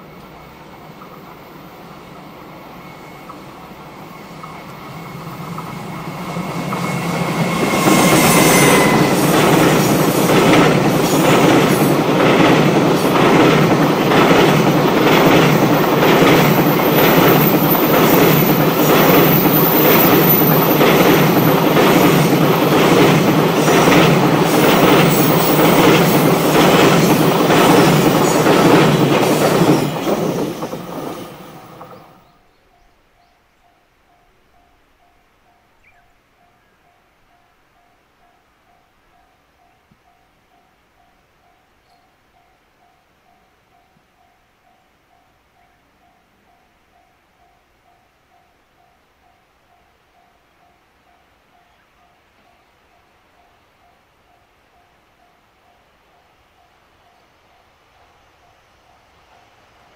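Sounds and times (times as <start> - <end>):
electric locomotive whine: 0.0 - 59.9.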